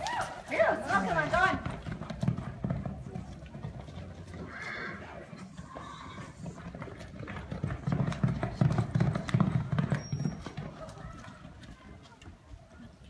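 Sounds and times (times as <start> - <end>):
horse hooves galloping on dirt: 0.0 - 13.0.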